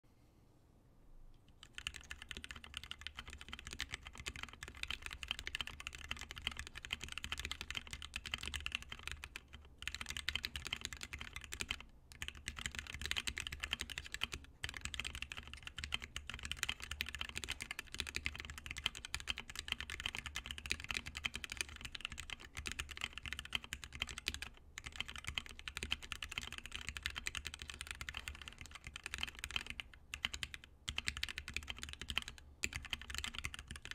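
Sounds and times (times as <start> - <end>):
mechanical keyboard typing: 1.5 - 33.9.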